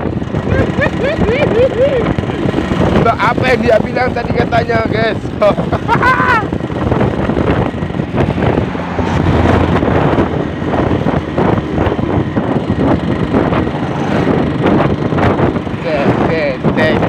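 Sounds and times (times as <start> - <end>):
two-stroke motorcycle engine: 0.0 - 17.0
wind buffeting microphone: 0.0 - 17.0.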